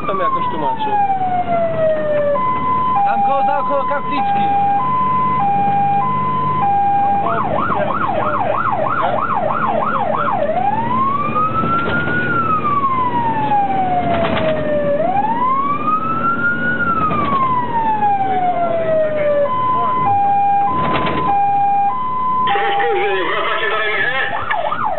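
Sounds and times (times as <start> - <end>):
diesel engine running: 0.0 - 24.9
fire engine siren: 0.0 - 24.9.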